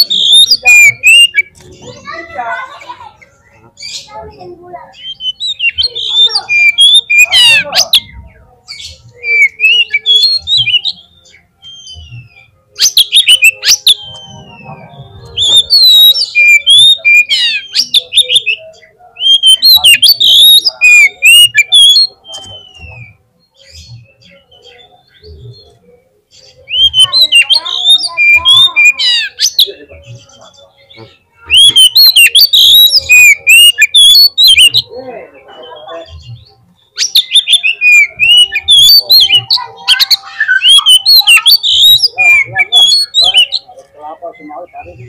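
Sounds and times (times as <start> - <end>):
bird singing whistles and chatter: 0.0 - 2.3, 3.1 - 45.0.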